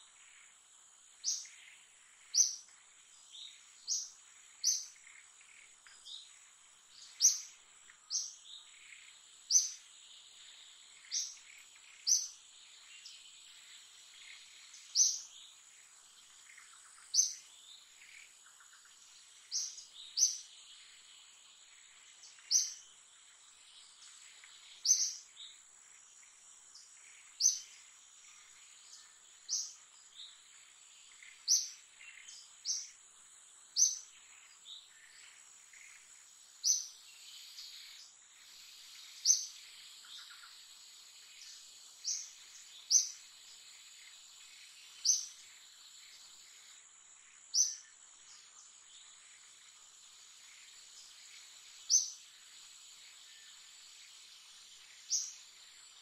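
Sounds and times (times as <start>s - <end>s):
bird chirping: 0.0s - 56.0s
faint insect drone: 0.0s - 56.0s.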